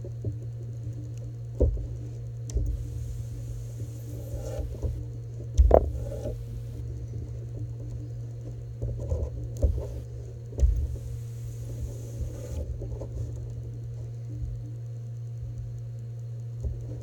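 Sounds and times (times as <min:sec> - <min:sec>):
faint welding hiss: 0:00.0 - 0:17.0
steady low hum: 0:00.0 - 0:17.0.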